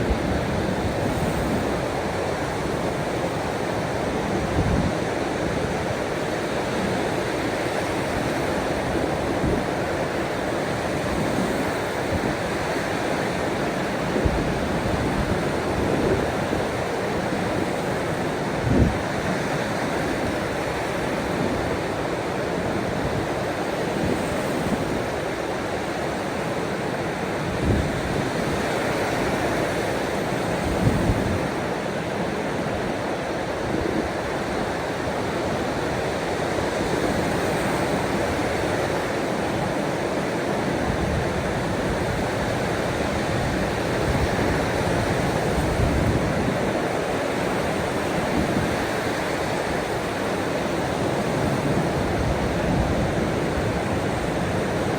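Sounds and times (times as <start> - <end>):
ocean waves: 0.0 - 54.9.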